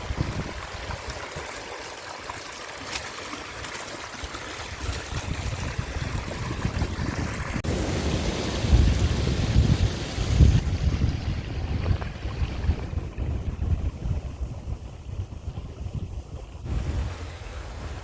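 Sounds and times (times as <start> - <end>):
wind buffeting the microphone: 0.0 - 1.3, 4.7 - 18.0
water running in a stream: 0.0 - 18.0.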